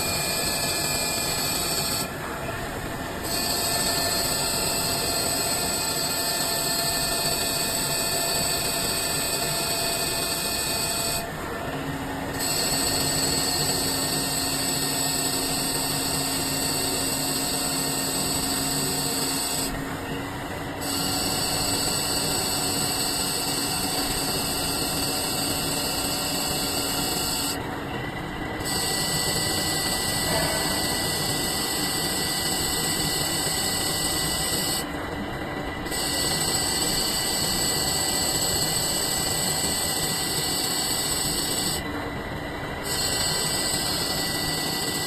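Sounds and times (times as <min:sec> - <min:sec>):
lathe machine running: 0:00.0 - 0:45.0.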